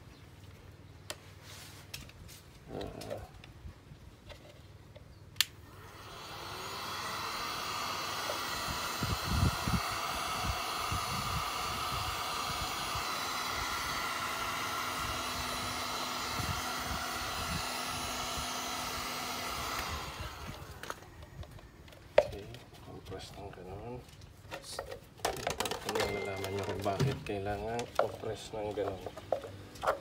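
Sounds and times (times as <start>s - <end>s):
heat gun fan blowing: 5.4s - 30.0s.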